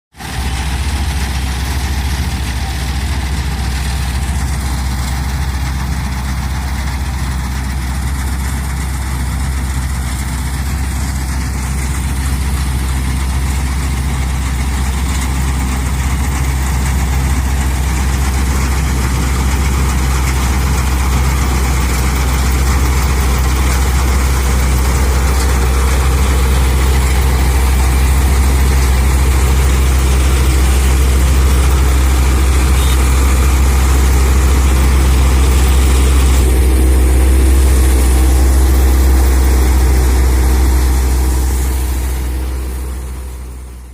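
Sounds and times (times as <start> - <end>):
tractor diesel engine running: 0.1 - 43.9.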